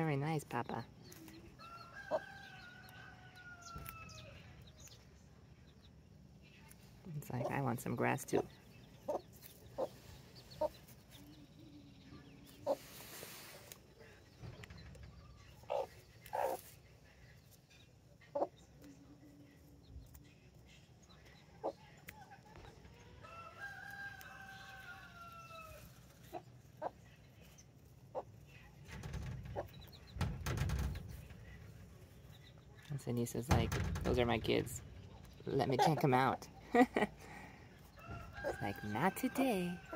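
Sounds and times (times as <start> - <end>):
chickens clucking: 6.7 - 19.0, 19.6 - 39.9.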